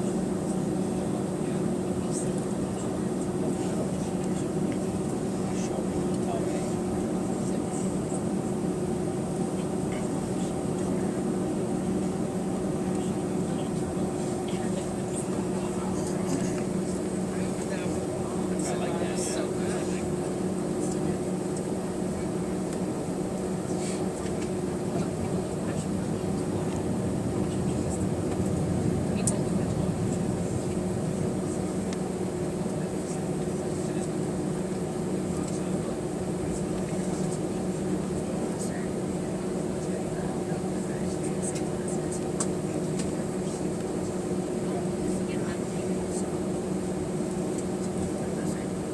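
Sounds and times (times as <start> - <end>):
airplane cabin drone: 0.0 - 48.9.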